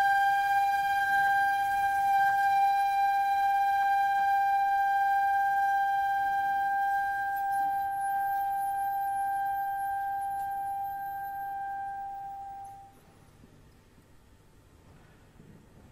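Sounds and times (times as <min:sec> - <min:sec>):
long held flute note: 0:00.0 - 0:13.2.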